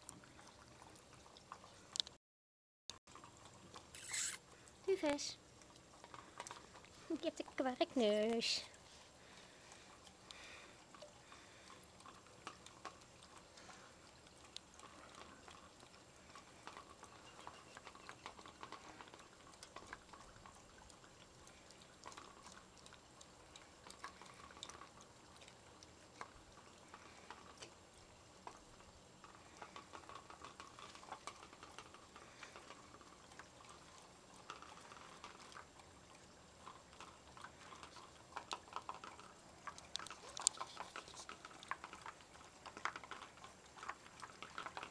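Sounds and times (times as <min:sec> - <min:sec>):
dogs licking plastic bowls: 0:00.0 - 0:02.2, 0:03.1 - 0:44.9.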